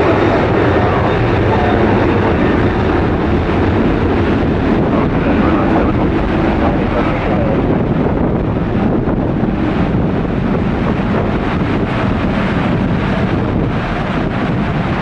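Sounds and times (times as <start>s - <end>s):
gusting wind on microphone: 0.0s - 15.0s
heavy rain: 0.0s - 15.0s.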